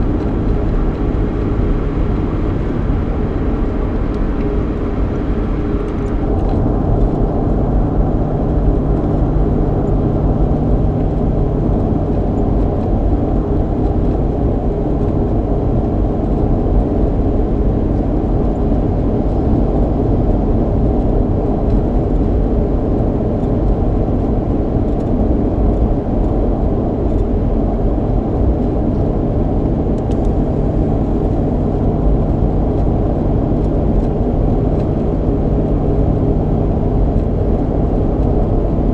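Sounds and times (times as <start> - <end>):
car engine hum: 0.0 - 38.9.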